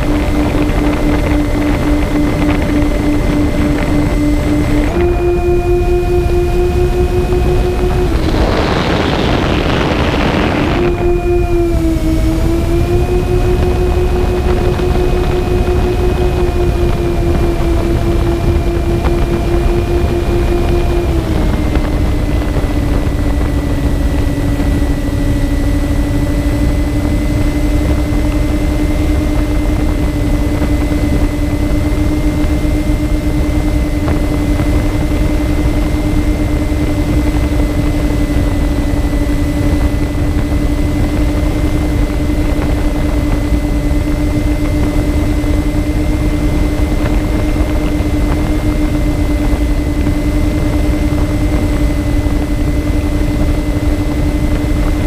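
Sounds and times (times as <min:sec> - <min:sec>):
propeller hum: 0:00.0 - 0:55.0
wind rushing past microphone: 0:00.0 - 0:55.0.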